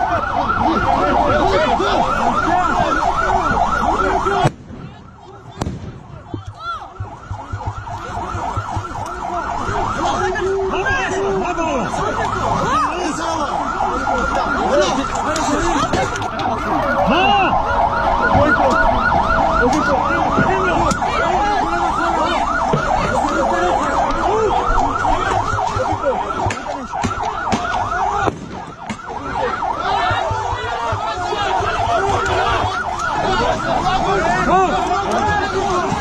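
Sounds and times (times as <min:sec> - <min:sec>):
ambulance siren yelping: 0:00.0 - 0:36.0
voices: 0:00.0 - 0:36.0.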